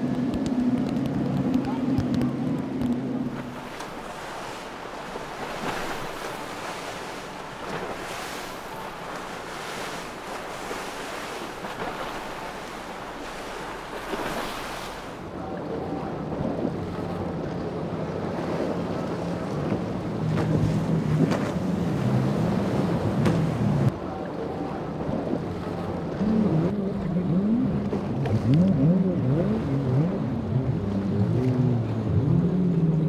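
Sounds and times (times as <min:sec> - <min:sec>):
outboard engines at speed: 0:00.0 - 0:33.0
wind: 0:00.0 - 0:33.0.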